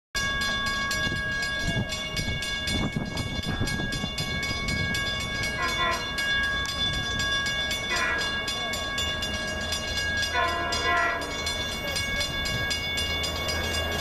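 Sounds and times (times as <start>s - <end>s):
crossing bell ringing: 0.2s - 14.0s
train passing with low rumble: 0.2s - 14.0s.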